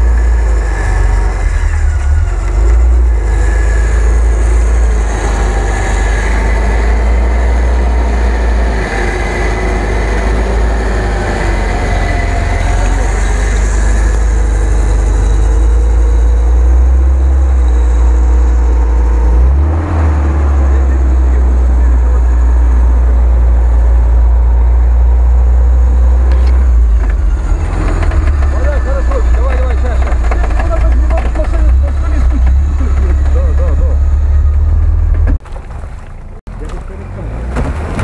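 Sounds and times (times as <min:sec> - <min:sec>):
wheels turning in snow: 0:00.0 - 0:35.4
vehicle engine low rumble: 0:00.0 - 0:38.0.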